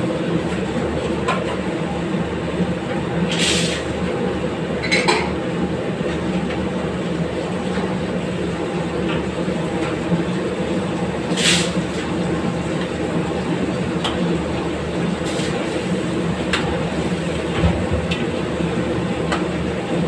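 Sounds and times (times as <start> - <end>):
gas stove burner roaring: 0.0 - 20.0.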